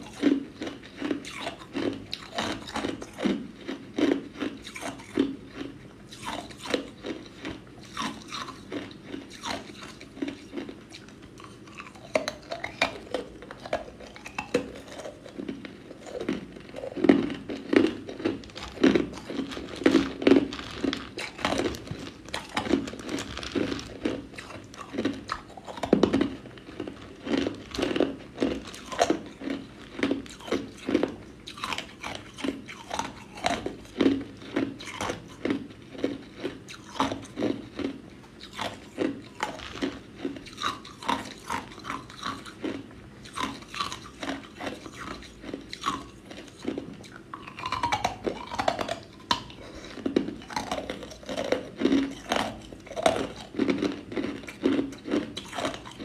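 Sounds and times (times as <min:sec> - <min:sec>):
ice cubes crunched by teeth: 0:00.0 - 0:56.0.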